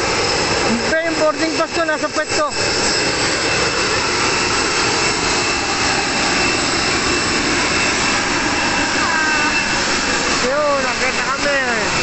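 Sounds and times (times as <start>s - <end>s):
high-pitched turbine whine: 0.0s - 12.0s
jet turbine running: 0.0s - 12.0s.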